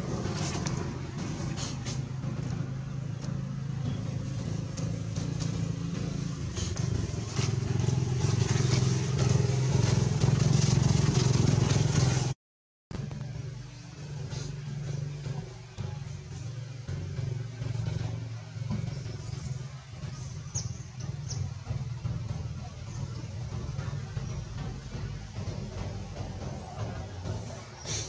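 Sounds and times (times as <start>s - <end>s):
motor engine humming: 0.0s - 12.4s, 13.0s - 28.0s.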